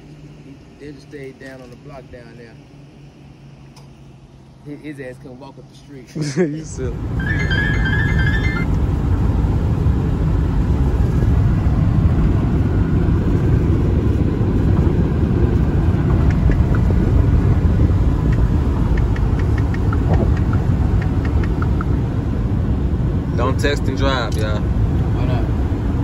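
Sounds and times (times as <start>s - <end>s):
tyre and road noise rumble: 0.0s - 26.0s.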